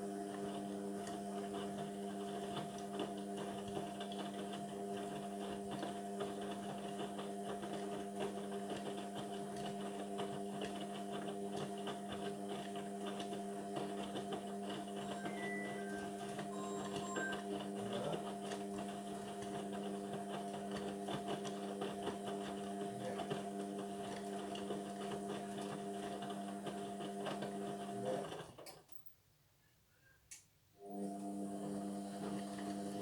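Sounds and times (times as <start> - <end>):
washing machine drain pump humming: 0.0 - 28.4, 30.8 - 33.0.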